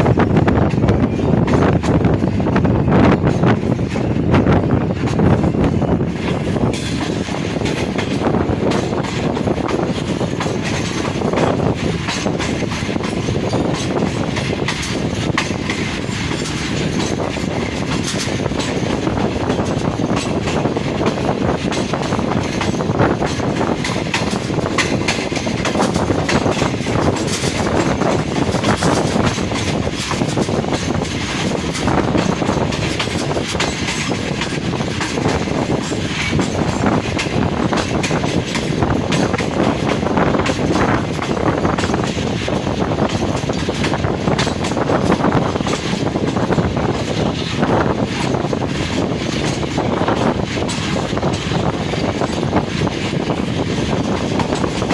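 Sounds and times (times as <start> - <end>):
train wheels clattering on rails: 0.0 - 54.9.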